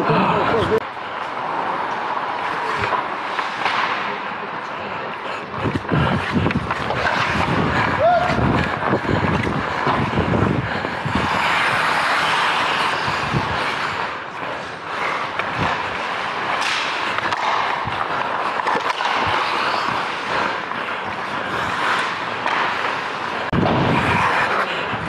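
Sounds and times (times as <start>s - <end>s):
skate blades scraping ice: 0.0s - 25.0s.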